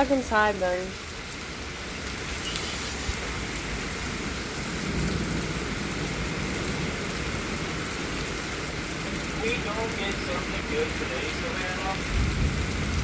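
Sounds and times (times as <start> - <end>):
heavy rain pouring: 0.0 - 13.0
wind: 0.0 - 13.0.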